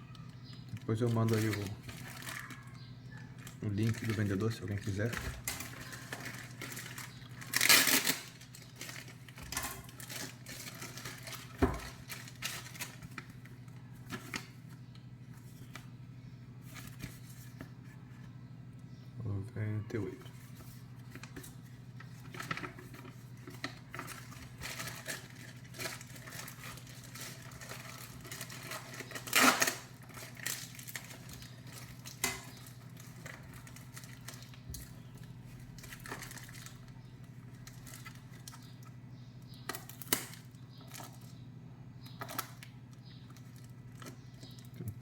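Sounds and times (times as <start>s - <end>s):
plastic and tape rustling: 0.0s - 15.9s, 16.6s - 18.4s, 20.2s - 41.4s, 42.0s - 45.0s.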